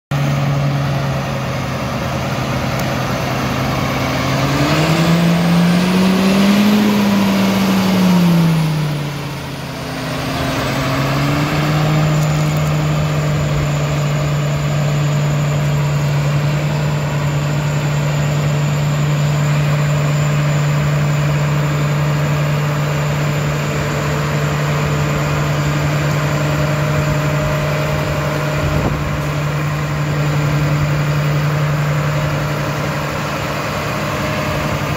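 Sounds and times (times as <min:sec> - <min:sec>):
tractor diesel engine idling and revving: 0:00.1 - 0:34.9.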